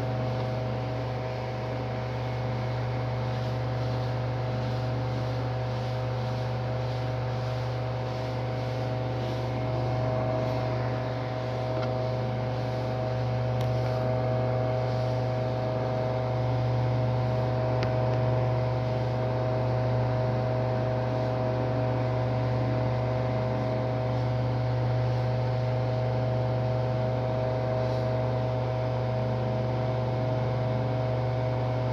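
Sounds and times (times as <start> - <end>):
electric motor humming: 0.0 - 31.4.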